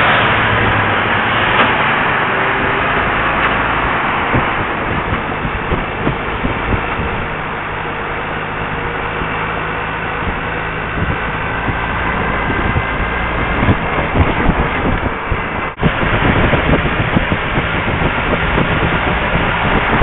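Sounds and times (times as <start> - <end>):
wind and road noise: 0.0 - 20.0
wind buffeting microphone: 0.0 - 20.0.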